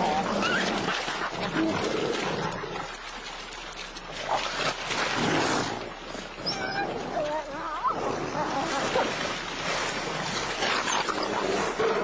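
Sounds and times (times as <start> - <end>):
animals snarling and growling: 0.0 - 3.2, 4.1 - 12.0.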